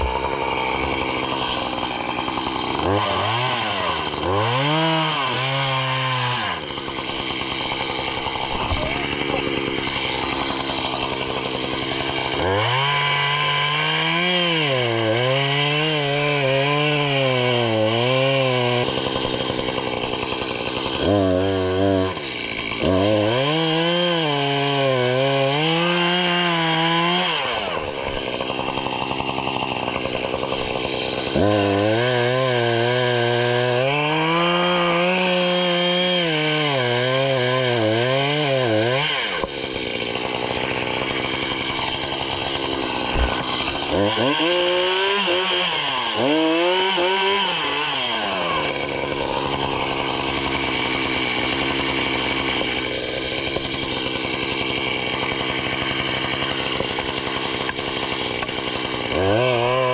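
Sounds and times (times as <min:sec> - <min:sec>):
chainsaw revving through wood: 0:00.0 - 0:59.9.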